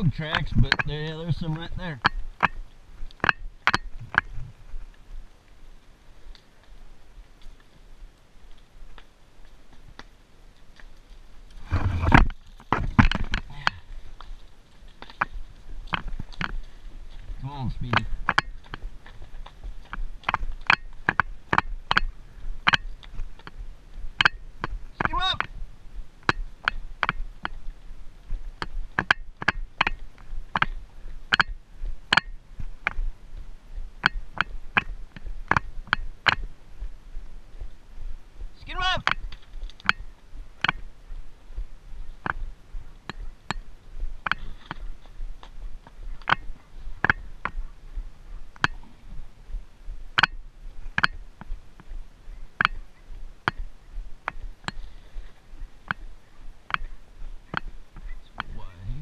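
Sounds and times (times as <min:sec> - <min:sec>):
faint rumble of wind: 0:00.0 - 0:59.0
horse hooves on rocky ground: 0:00.0 - 0:59.0.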